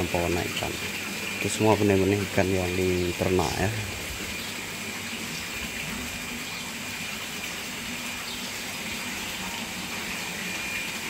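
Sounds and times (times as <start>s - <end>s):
water running into tank: 0.0s - 11.0s.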